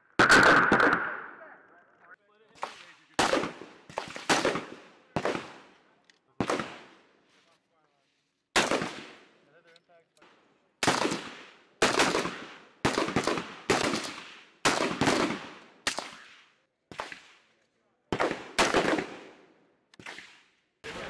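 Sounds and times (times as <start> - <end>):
rifle shots with echo: 0.2 - 1.5, 2.6 - 7.2, 8.5 - 9.4, 10.2 - 20.7.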